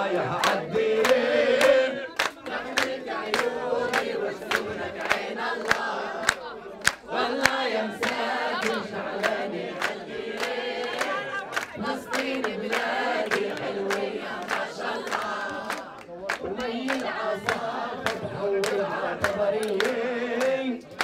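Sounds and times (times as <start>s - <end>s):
crowd clapping in time: 0.0s - 21.0s
crowd singing: 0.0s - 21.0s.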